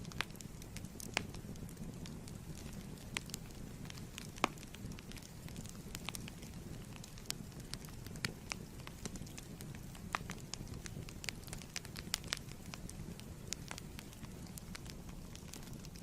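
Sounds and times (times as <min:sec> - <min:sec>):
fire crackling and popping: 0:00.0 - 0:16.0
low rumble of burning wood: 0:00.0 - 0:16.0.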